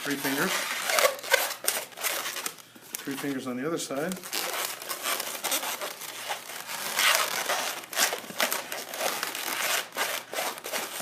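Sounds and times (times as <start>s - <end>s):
balloons rubbing and twisting: 0.0s - 3.4s, 4.0s - 11.0s.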